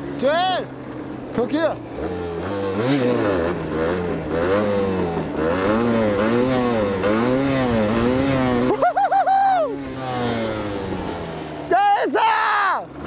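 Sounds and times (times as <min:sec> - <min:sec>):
two-stroke motorcycle engine revving: 0:00.0 - 0:11.8, 0:12.8 - 0:13.0.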